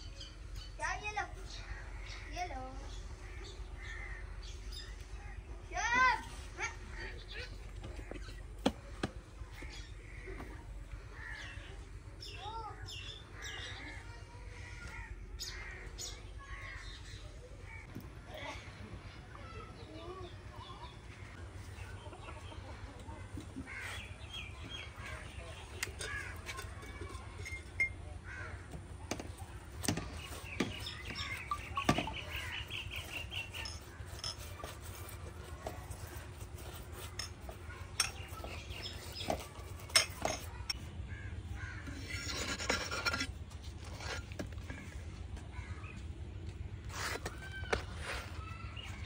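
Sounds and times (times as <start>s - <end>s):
birds calling: 0.0s - 49.0s.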